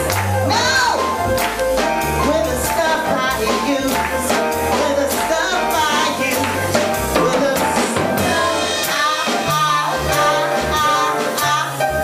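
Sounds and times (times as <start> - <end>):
bass line: 0.0 - 12.0
person singing: 2.2 - 12.0.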